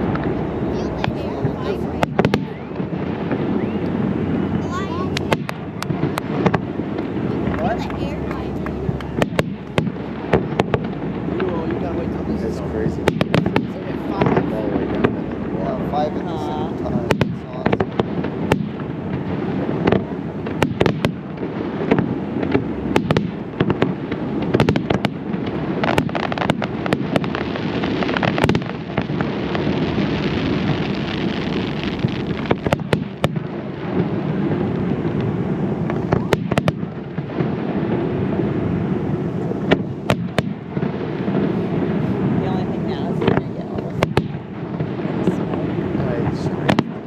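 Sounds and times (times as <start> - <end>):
fireworks crackling hiss: 0.0 - 47.0
fireworks shells exploding: 0.0 - 47.0.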